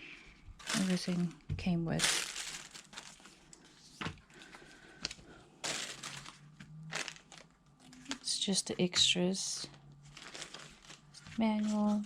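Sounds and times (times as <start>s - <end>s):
paper and plastic wrapping crinkling: 0.6s - 8.6s, 10.0s - 12.0s.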